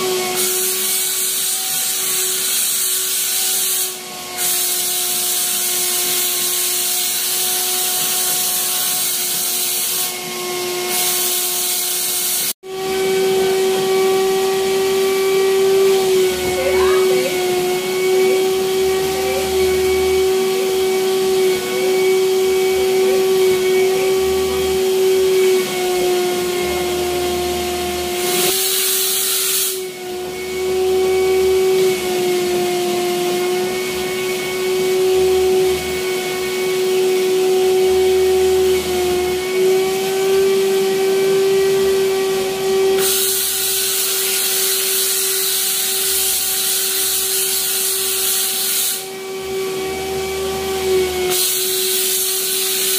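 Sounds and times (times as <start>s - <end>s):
cleaning machine motor whine: 0.0s - 52.9s.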